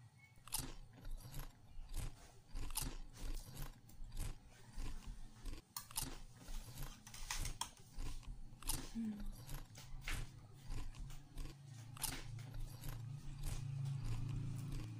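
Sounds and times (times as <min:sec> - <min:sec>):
person chewing soft cake: 0:00.4 - 0:14.9.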